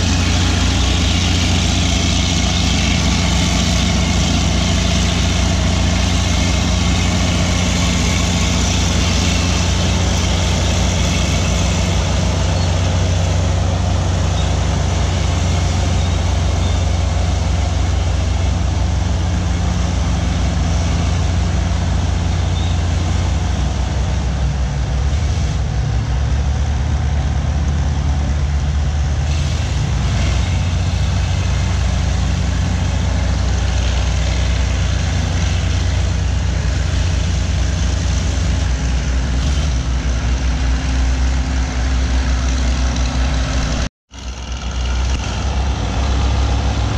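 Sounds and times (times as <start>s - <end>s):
dozer diesel engine under load: 0.0s - 46.9s
second dozer engine: 0.0s - 46.9s.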